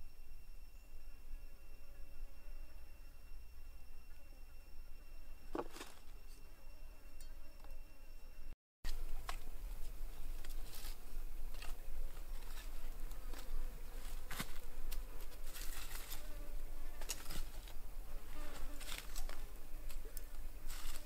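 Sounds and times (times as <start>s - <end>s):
faint insect buzz: 0.0s - 21.0s.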